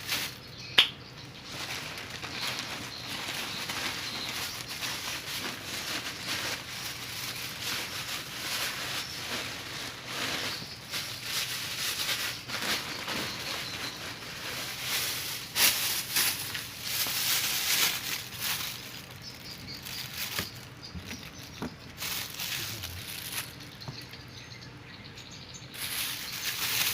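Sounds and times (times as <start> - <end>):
dry nests rustling and crackling: 0.0 - 24.4, 25.7 - 26.9.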